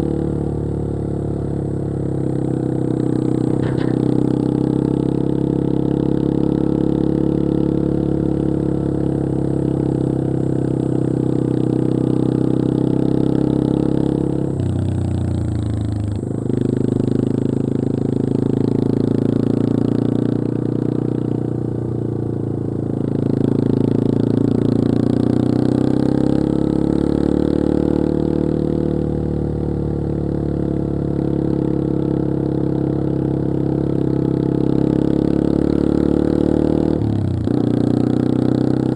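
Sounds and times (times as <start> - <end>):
single-cylinder motorcycle engine running: 0.0 - 38.9.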